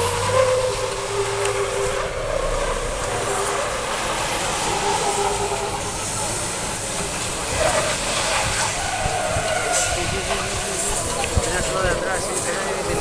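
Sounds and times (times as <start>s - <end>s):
heavy truck engines running: 0.0s - 13.0s.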